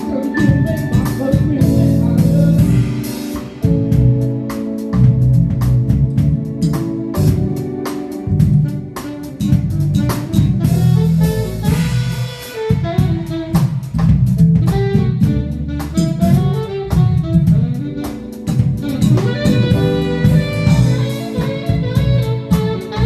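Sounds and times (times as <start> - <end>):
drum kit: 0.0 - 23.0
electric bass: 0.0 - 23.0
keyboards: 0.0 - 23.0
saxophone melody: 0.0 - 23.0.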